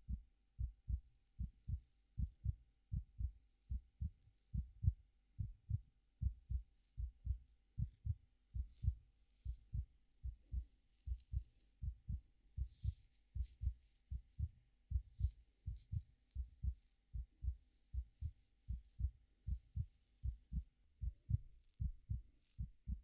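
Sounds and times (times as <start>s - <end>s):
heartbeat thumps: 0.0s - 23.0s.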